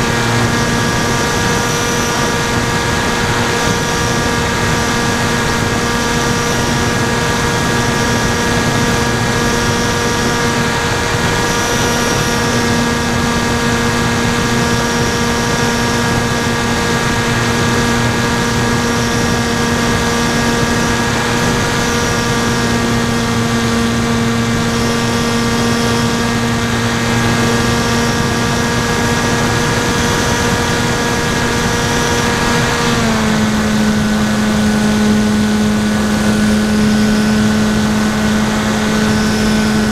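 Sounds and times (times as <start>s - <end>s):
electric motor propeller drone: 0.0s - 39.9s.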